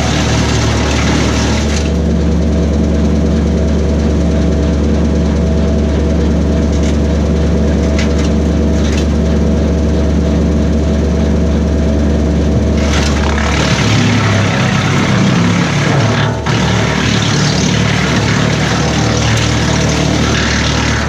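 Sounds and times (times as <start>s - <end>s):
tractor diesel engine running: 0.0s - 21.0s
wood chipper chipping: 0.0s - 21.0s.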